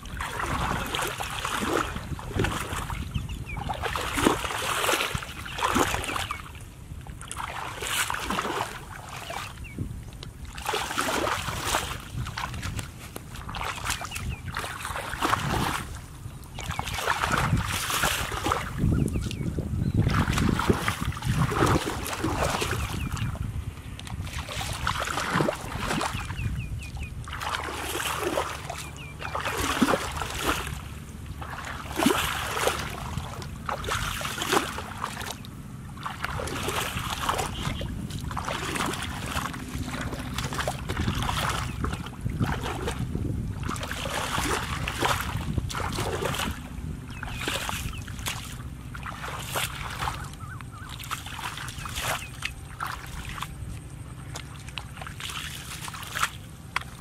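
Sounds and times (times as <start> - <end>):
feet wading through muddy water: 0.0 - 57.0.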